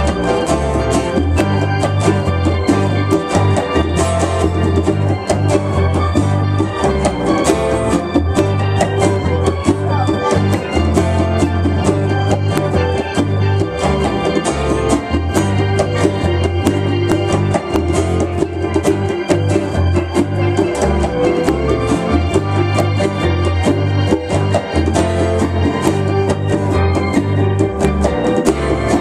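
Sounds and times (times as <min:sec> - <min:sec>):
live band playing instrumental: 0:00.0 - 0:29.0.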